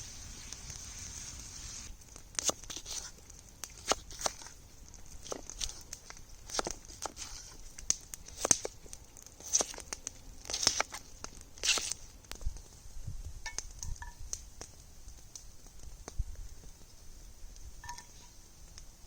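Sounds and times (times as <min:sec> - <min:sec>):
fire pops and crackles: 0:00.0 - 0:19.0
hash browns sizzling in a pan: 0:00.0 - 0:19.0.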